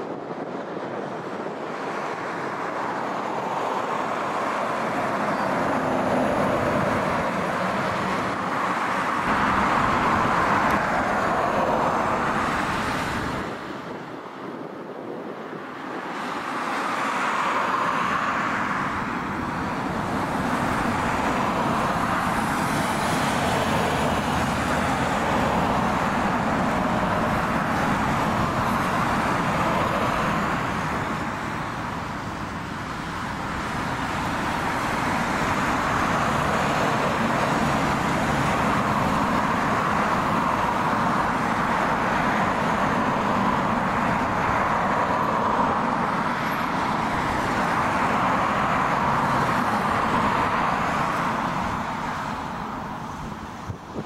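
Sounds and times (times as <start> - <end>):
jet engines roaring: 0.0 - 53.7.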